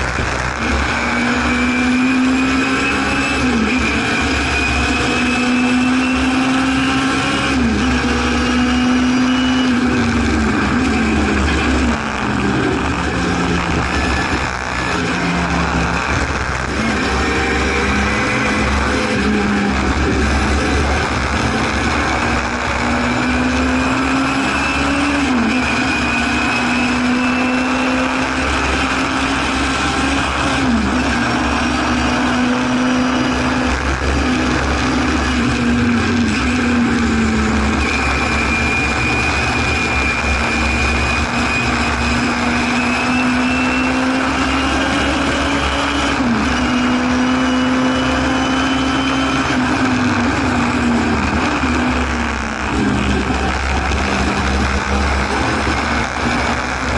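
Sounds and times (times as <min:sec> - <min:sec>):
racing car engine accelerating: 0:00.0 - 0:56.9
wind and road noise: 0:00.0 - 0:56.9.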